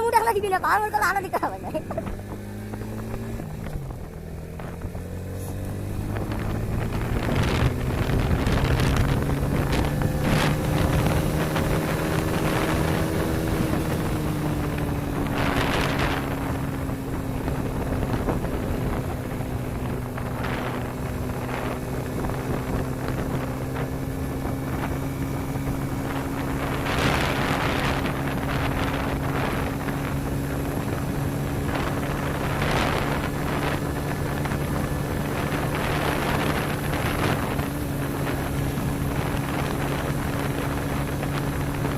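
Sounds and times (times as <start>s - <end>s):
motorcycle engine running: 0.0s - 41.9s
wind gusting over microphone: 0.0s - 41.9s.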